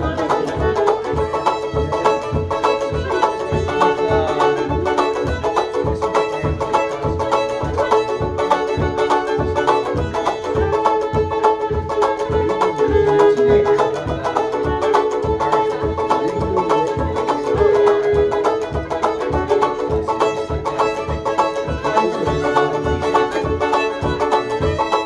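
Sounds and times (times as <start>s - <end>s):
banjo plucked notes: 0.0s - 25.0s
fiddle melody: 0.0s - 25.0s
steady low beat: 0.0s - 25.0s.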